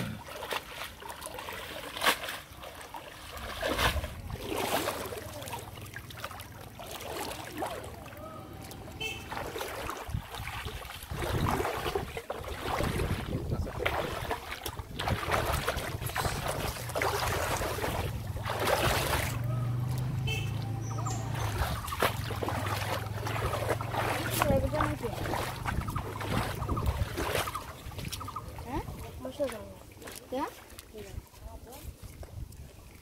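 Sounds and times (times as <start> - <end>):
shallow water splashing and sloshing: 0.0 - 33.0.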